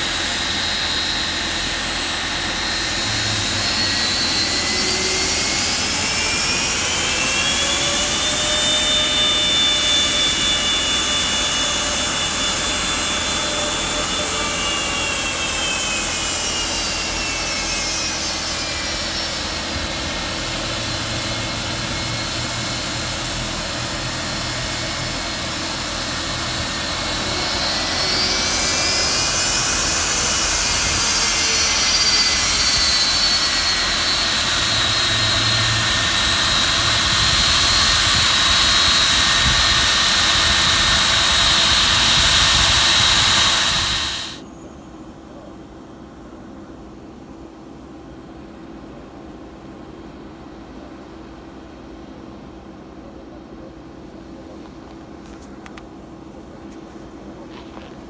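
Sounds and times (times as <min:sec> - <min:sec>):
jet engine rumble and whine: 0:00.0 - 0:58.0.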